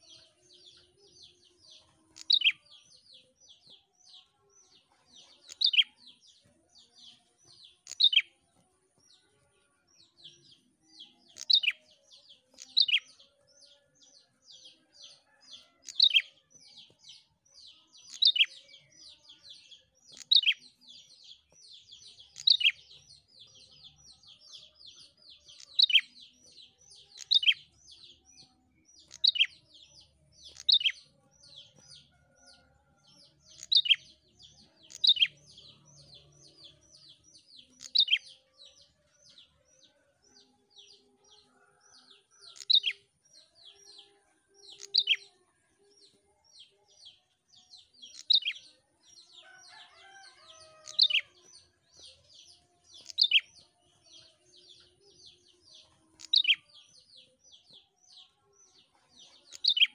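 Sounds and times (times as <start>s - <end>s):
bird high chirps: 0.0s - 8.6s, 10.0s - 39.4s, 40.3s - 45.4s, 46.1s - 54.9s, 55.5s - 57.0s, 57.6s - 59.9s.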